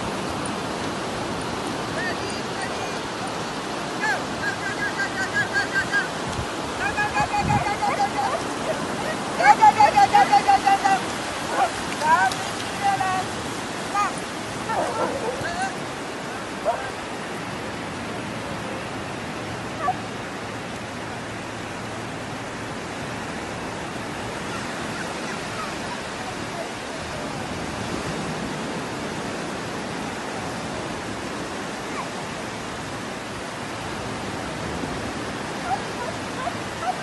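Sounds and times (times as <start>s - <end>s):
sea surf breaking on sand: 0.0s - 37.0s.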